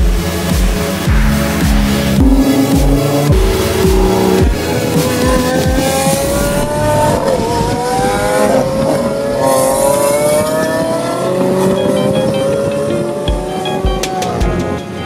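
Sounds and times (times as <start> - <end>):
sports car engine accelerating: 1.1 - 14.4.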